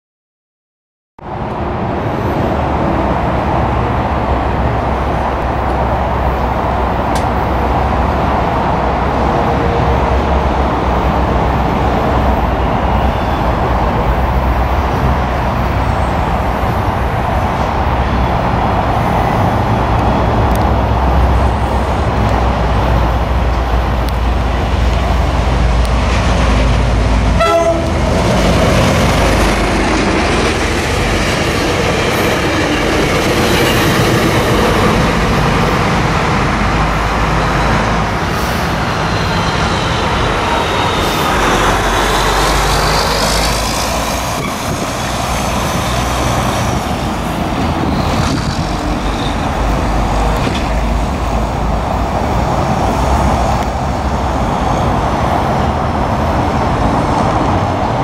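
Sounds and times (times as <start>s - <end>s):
train rumbling: 1.3s - 58.0s.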